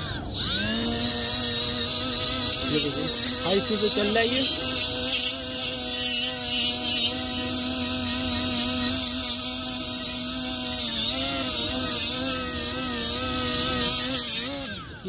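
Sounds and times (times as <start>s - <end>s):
die grinder whining: 0.0s - 15.0s.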